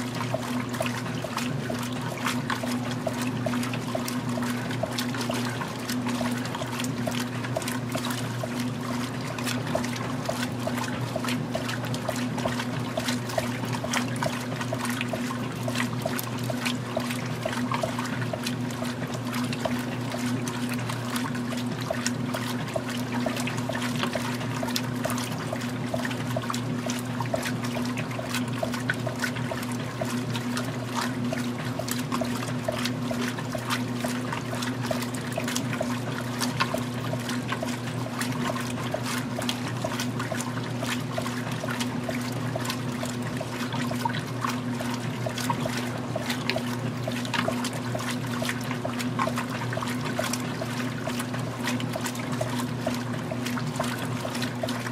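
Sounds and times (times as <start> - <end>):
agitator churning and splashing water: 0.0 - 54.9
washing machine motor hum: 0.0 - 54.9.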